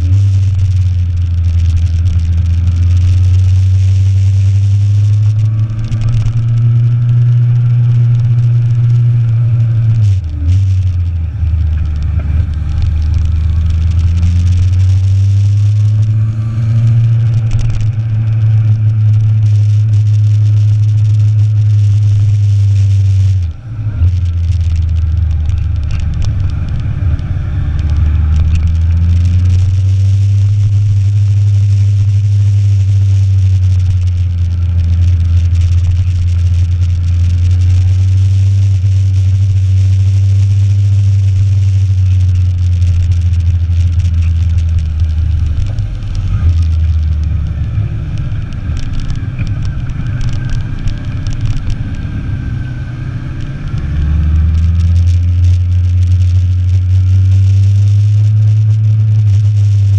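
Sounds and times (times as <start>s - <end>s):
motorcycle engine running: 0.0s - 59.9s
wind rumble: 0.0s - 59.9s.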